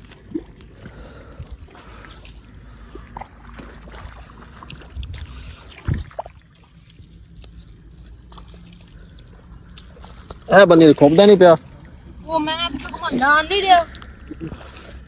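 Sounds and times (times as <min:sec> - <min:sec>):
hands splashing in muddy water: 0:00.0 - 0:12.1.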